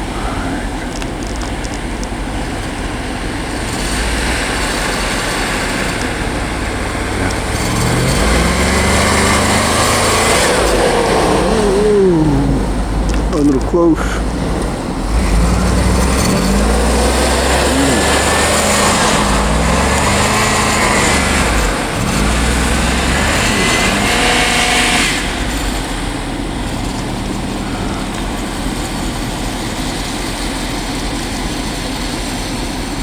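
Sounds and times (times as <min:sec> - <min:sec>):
pickup truck engine revving: 0:00.0 - 0:33.0.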